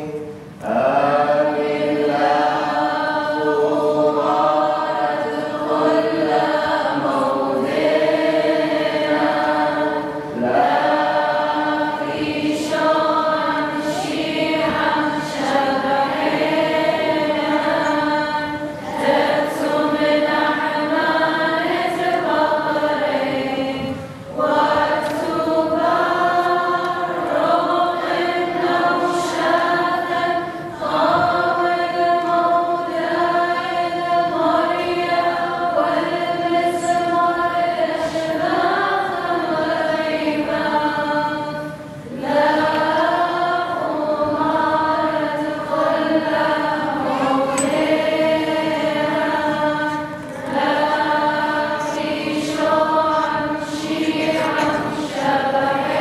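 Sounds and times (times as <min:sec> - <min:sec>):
choir singing a chant: 0:00.0 - 0:56.0.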